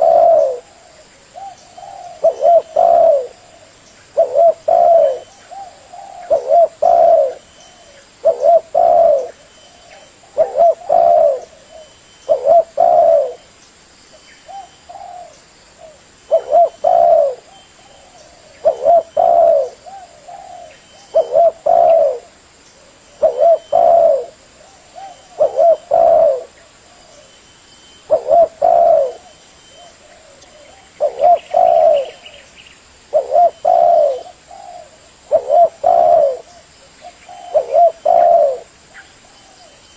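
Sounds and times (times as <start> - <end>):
dove cooing: 0.0 - 13.5, 14.5 - 32.5, 33.1 - 39.8.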